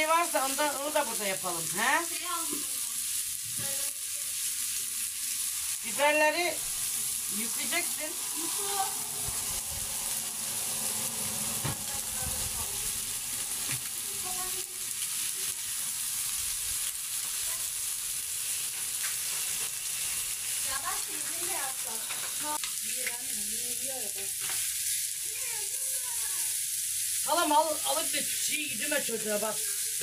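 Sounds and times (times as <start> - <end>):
chicken sizzling on griddle: 0.0 - 30.0.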